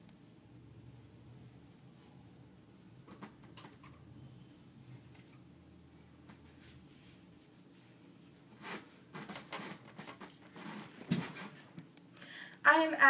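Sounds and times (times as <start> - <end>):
rustling and handling noises: 1.0 - 12.2.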